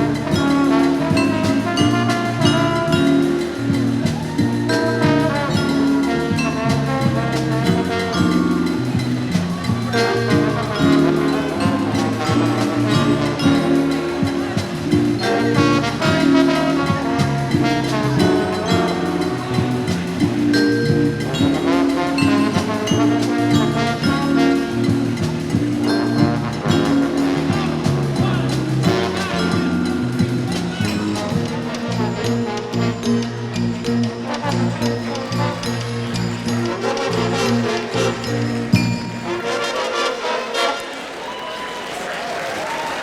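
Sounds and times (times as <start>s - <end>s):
jazz music with brass and drums: 0.0s - 41.2s.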